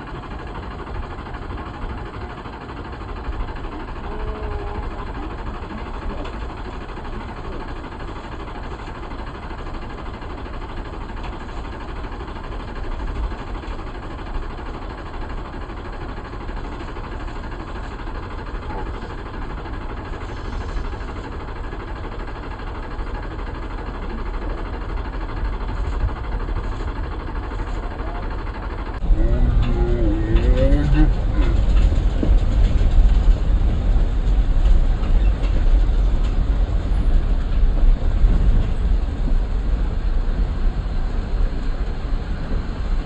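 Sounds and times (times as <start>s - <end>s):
vehicle engine rumbling: 0.0s - 11.7s, 12.4s - 43.0s.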